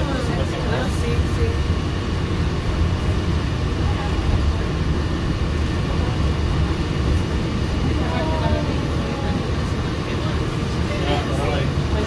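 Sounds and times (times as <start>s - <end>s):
monorail low rumble: 0.0s - 12.0s.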